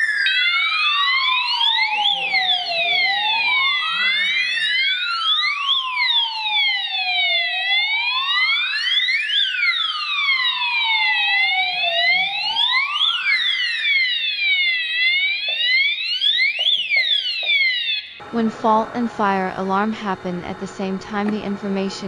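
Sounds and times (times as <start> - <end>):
fire alarm sirens wailing: 0.0 - 22.0.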